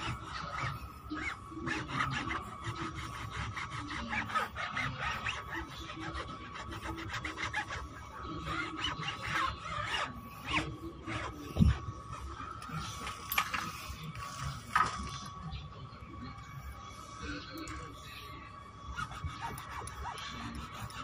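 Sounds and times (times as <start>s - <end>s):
steady high whine: 0.0s - 21.0s.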